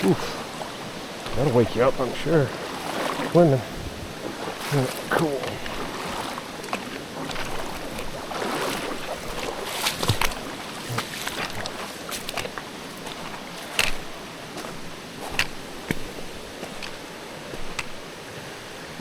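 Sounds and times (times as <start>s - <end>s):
feet splashing through water: 0.0s - 19.0s
stream water rushing: 0.0s - 19.0s.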